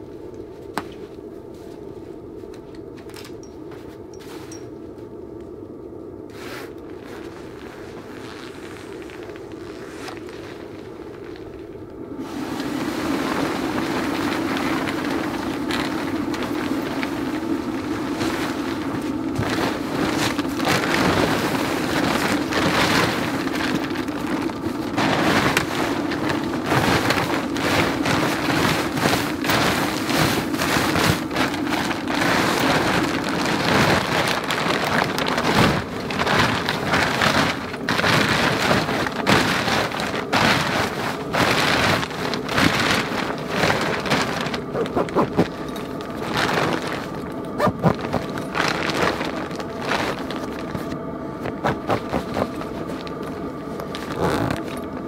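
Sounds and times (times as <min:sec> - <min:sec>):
steady low hum: 0:00.0 - 0:55.0
tent fabric rustling: 0:06.3 - 0:55.0.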